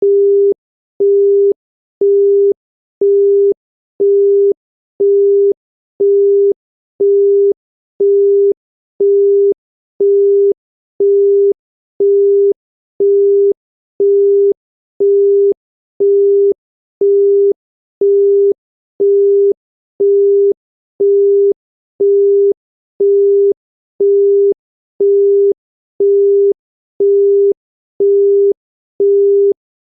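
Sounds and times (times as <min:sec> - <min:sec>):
telephone busy tone beeping: 0:00.0 - 0:29.6.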